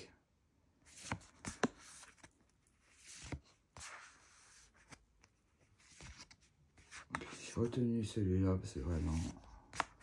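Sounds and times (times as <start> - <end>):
cards rubbing and sliding: 0.8 - 7.8, 8.8 - 10.0.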